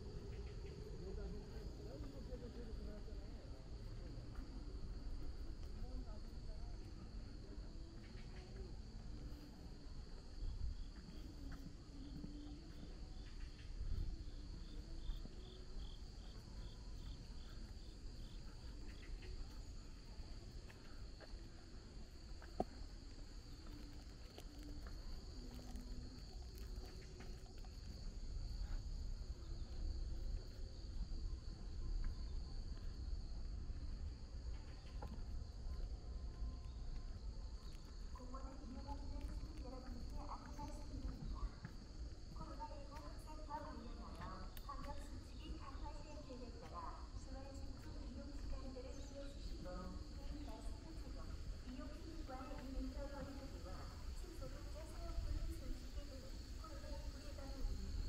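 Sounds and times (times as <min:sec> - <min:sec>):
insects chirping: 0:00.0 - 0:58.0
pulsing insect call: 0:00.0 - 0:58.0.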